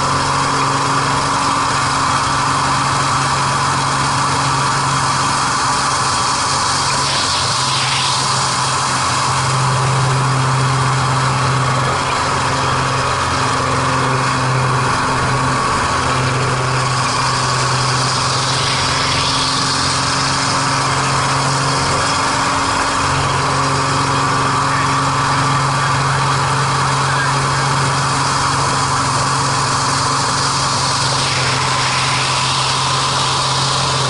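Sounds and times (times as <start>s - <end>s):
plane engine and propeller drone: 0.0s - 34.0s.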